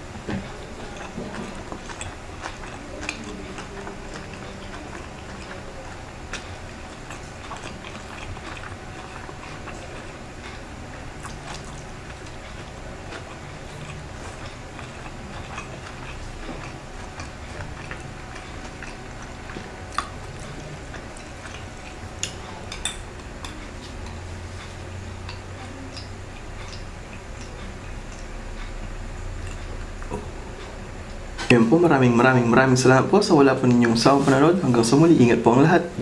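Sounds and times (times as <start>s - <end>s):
person chewing: 0.0s - 31.0s
steady low hum: 0.0s - 36.0s.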